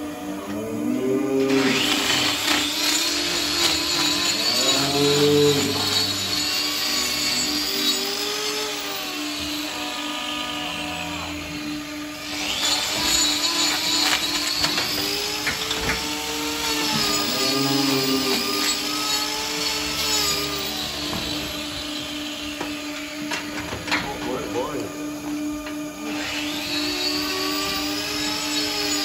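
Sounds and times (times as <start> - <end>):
angle grinder whine: 0.0 - 29.0.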